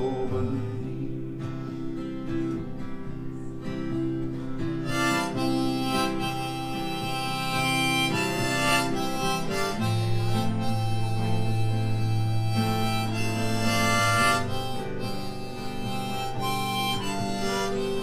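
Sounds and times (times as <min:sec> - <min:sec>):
acoustic guitar: 0:00.0 - 0:18.0
harmonica melody: 0:00.0 - 0:18.0.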